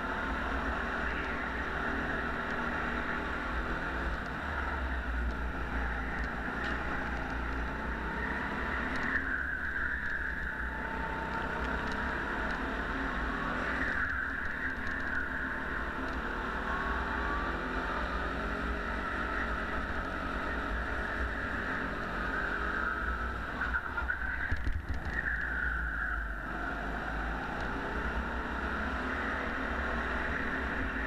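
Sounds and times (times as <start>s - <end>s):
go-kart engine running: 0.0s - 31.0s.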